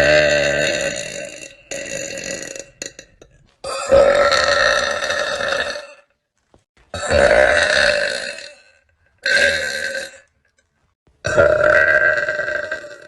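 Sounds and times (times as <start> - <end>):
woman burping loudly: 0.0 - 6.1, 6.9 - 10.3, 11.2 - 13.0.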